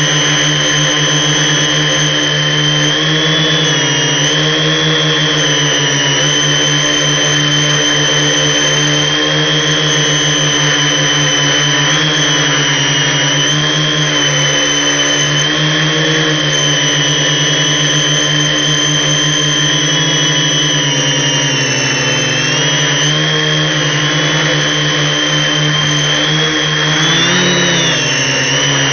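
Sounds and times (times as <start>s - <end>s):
drone propellers whining: 0.0s - 28.9s.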